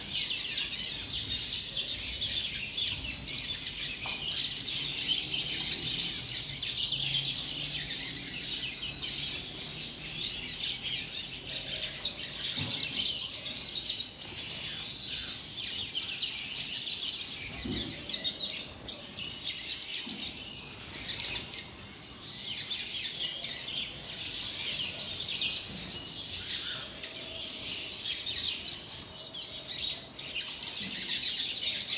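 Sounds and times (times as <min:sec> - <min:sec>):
bird singing rapid chirps: 0:00.0 - 0:31.9.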